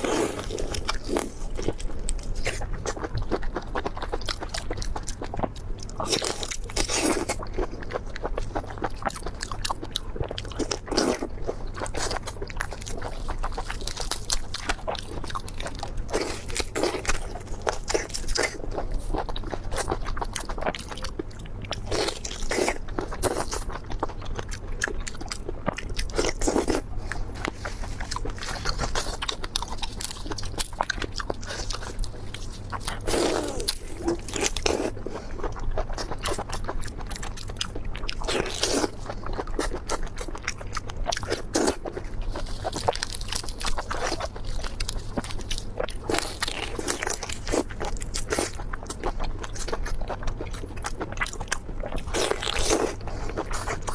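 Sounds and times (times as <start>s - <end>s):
crunchy bites and chewing: 0.0s - 53.9s.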